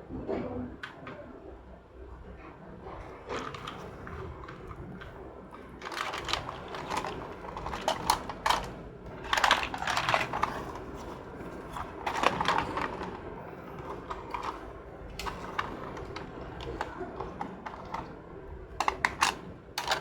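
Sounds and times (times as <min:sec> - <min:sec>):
plastic toy cars clattering: 0:03.0 - 0:20.0.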